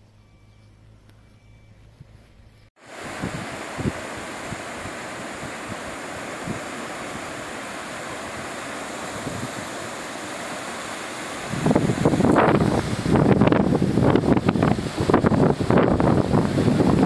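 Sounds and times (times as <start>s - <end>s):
river water rushing: 2.8s - 17.0s
wind buffeting microphone: 2.9s - 17.0s.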